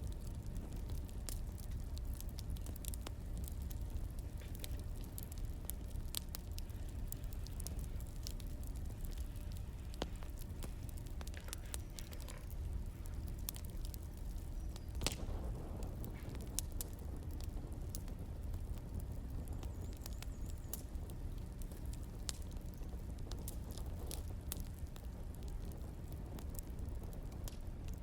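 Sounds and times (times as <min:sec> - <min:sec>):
firewood crackling and popping: 0:00.0 - 0:28.0
low fire rumble: 0:00.0 - 0:28.0.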